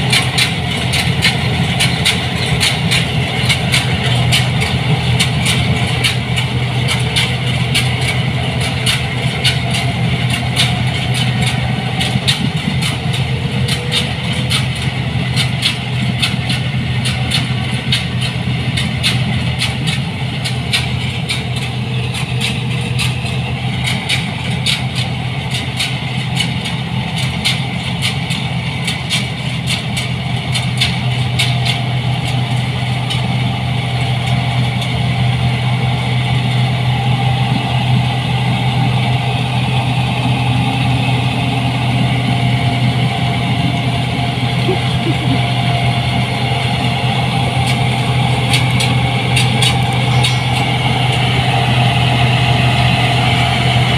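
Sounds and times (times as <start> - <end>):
combine harvester engine humming: 0.0 - 53.9.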